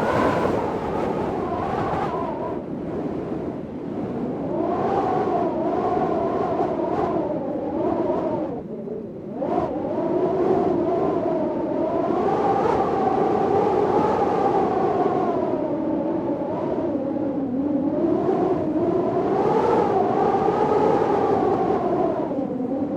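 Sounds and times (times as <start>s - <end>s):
storm wind howling: 0.0s - 22.9s.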